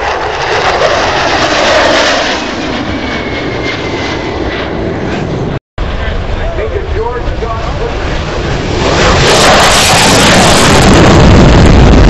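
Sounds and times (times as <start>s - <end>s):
jet engine roaring: 0.0s - 12.0s.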